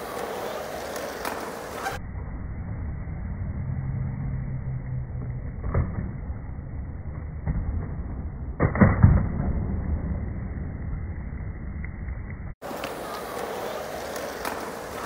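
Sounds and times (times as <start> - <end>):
skateboard wheels rolling on concrete: 0.0 - 3.1, 4.4 - 15.0.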